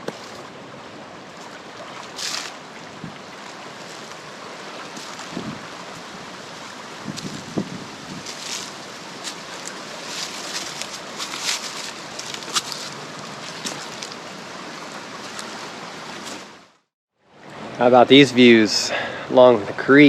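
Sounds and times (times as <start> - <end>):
creek water rushing over rapids: 0.0 - 20.0.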